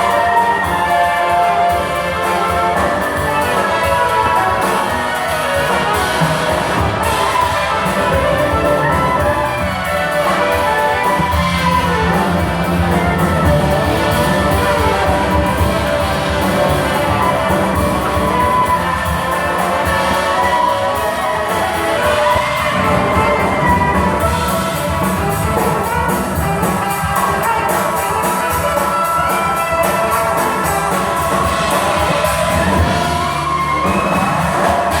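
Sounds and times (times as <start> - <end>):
brass instrumental music: 0.0 - 35.0.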